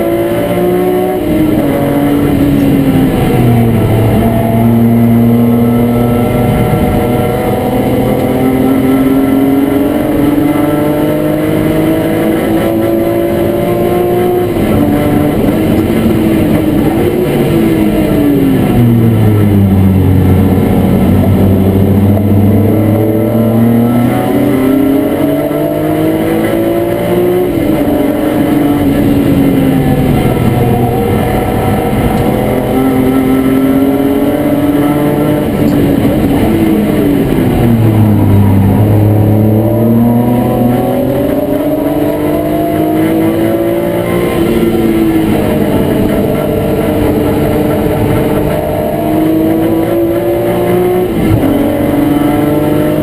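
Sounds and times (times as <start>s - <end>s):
race car engine revving: 0.0s - 53.0s
road and wind noise: 0.0s - 53.0s.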